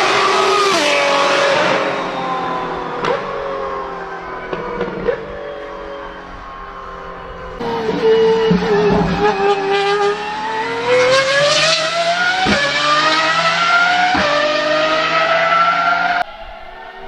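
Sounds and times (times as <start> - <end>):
sports car engine accelerating: 0.0 - 16.2.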